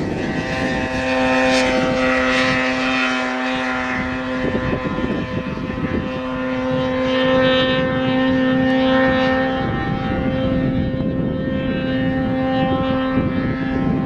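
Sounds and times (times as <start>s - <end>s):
snowmobile engine at high revs: 0.0s - 14.0s.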